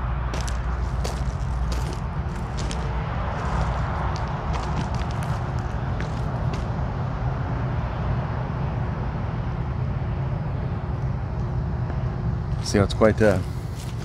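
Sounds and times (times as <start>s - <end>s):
faint steady hum: 0.0s - 14.0s
vehicle engine rumbling: 0.0s - 14.0s.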